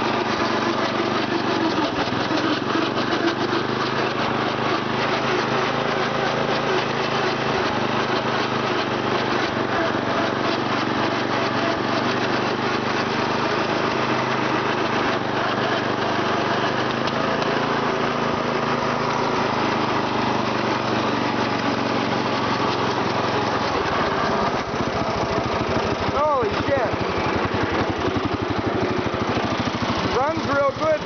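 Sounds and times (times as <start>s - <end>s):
riding mower engine running: 0.0s - 31.0s.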